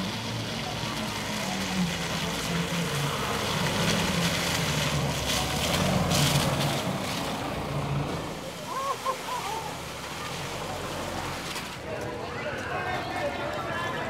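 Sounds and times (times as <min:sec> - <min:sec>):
tyres splashing through mud: 0:00.0 - 0:14.0.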